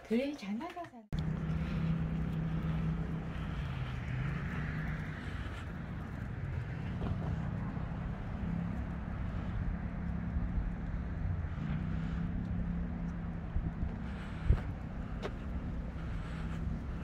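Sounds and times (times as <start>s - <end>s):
distant city traffic rumble: 1.2s - 17.0s
faint constant drone: 1.2s - 17.0s.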